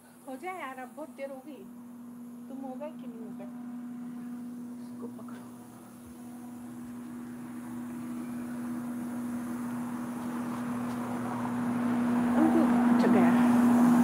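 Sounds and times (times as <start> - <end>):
air fryer fan humming: 0.0 - 14.0.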